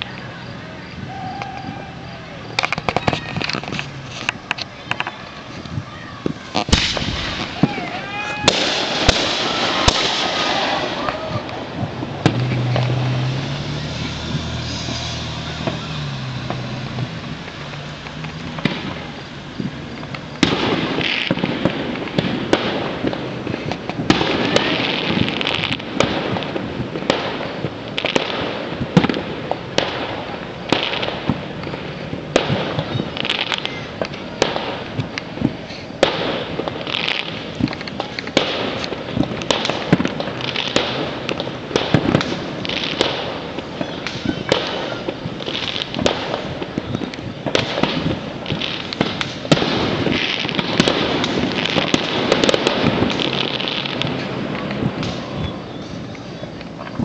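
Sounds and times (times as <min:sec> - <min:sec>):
fireworks bangs and pops: 0:00.0 - 0:57.0.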